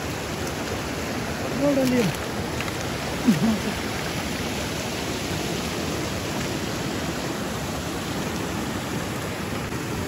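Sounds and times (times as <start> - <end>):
stream water pouring over weir: 0.0 - 10.0.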